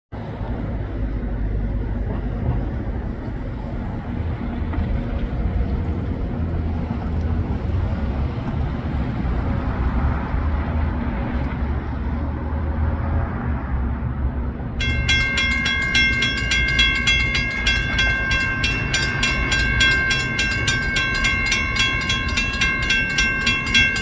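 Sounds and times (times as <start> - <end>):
diesel locomotive rumble: 0.2 - 24.0.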